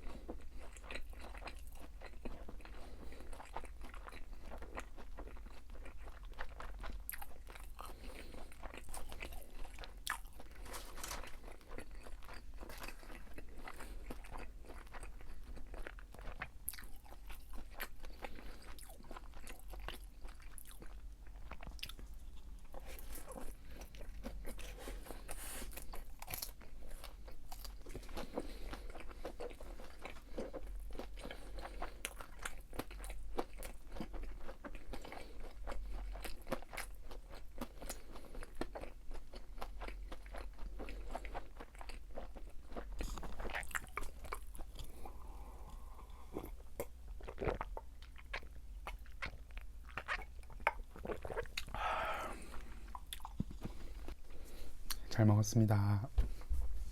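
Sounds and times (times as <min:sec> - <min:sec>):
person chewing crunchy food: 0:00.0 - 0:55.1.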